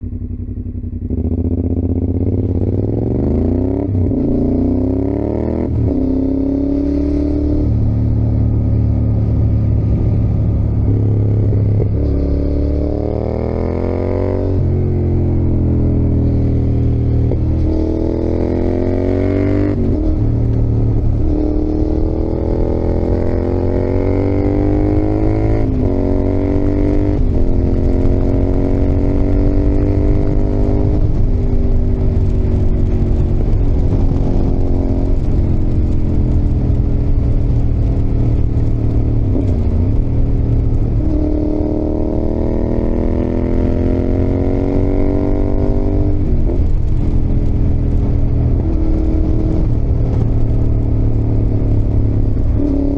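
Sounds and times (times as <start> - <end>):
motorcycle engine revving under load: 0.0 - 52.9
steady low rumble: 5.6 - 43.3, 43.9 - 52.9.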